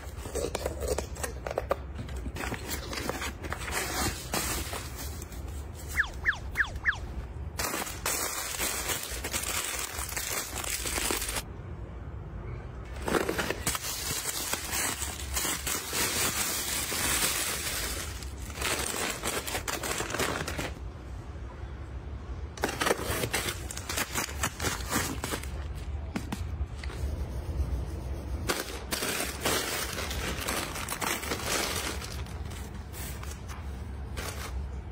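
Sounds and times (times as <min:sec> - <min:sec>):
containers set on shelves: 0:00.0 - 0:34.9.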